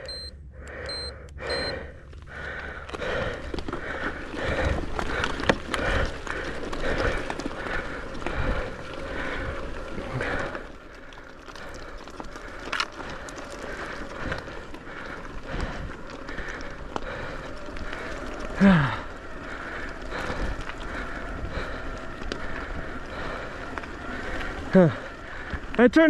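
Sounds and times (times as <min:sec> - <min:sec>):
bike tyres rolling on dirt: 0:01.7 - 0:26.0
bike rattling: 0:02.0 - 0:26.0.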